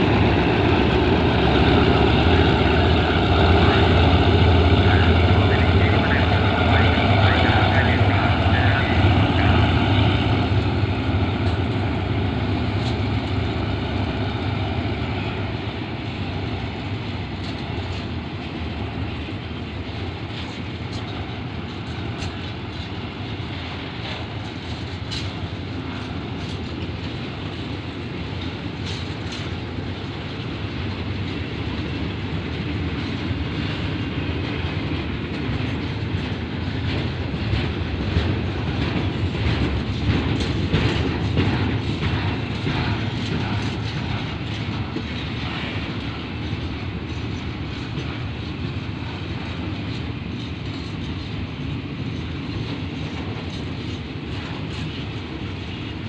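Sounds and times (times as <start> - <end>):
steel wheels rumbling on rails: 0.0 - 56.0
wheels clicking over rail joints: 0.0 - 56.0.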